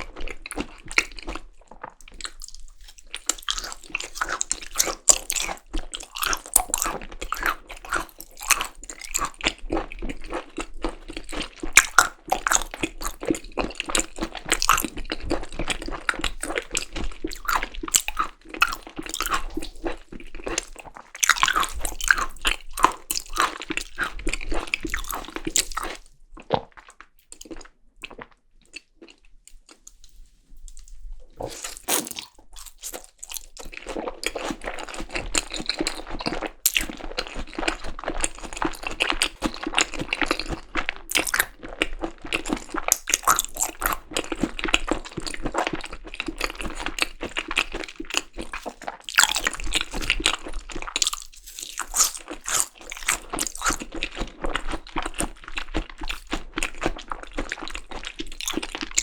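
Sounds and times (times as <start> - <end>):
wet crunchy chewing: 0.0 - 30.2, 30.8 - 59.0.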